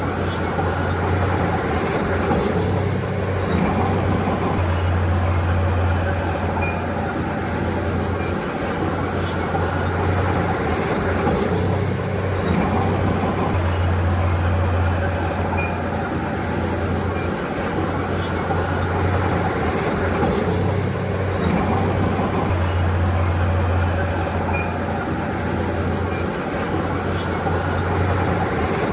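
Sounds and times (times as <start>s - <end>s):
bulldozer diesel engine droning: 0.0s - 28.9s.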